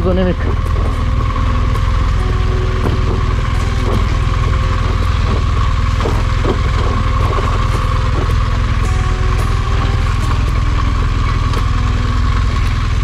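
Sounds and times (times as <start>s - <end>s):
knocks and clatters: 0.0s - 13.0s
motorcycle engine running: 0.0s - 13.0s.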